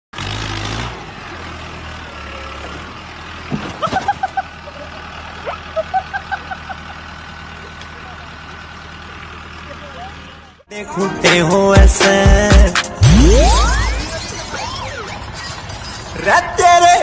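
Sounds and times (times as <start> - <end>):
tractor engine droning: 0.2 - 17.0.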